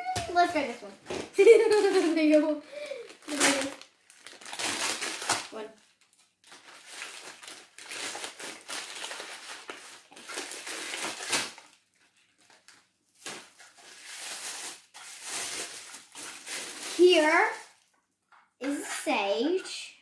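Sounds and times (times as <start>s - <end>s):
packaging wrapper crinkling: 1.8s - 17.9s.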